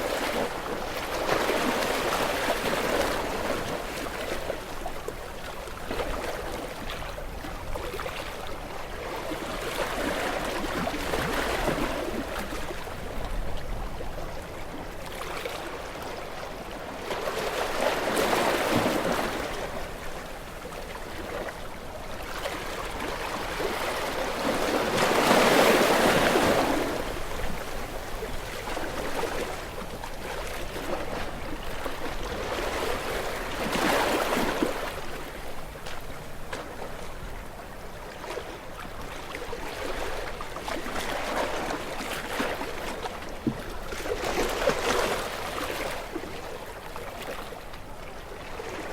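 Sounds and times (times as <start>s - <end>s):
gentle waves breaking on beach: 0.0s - 48.9s.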